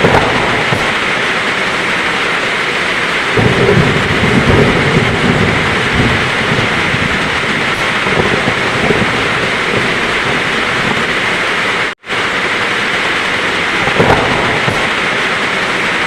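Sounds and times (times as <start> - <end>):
heavy rain falling: 0.0 - 16.0
low thunder rumbling: 0.0 - 16.0.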